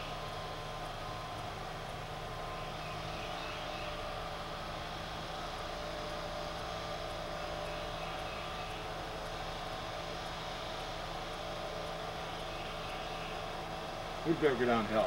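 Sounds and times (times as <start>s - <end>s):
distant lawn mower engine: 0.0s - 15.0s.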